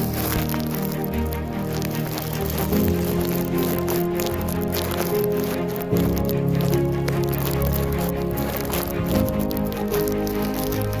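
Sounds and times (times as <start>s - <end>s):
background music with held chords: 0.0s - 11.0s
light ticking: 0.0s - 11.0s.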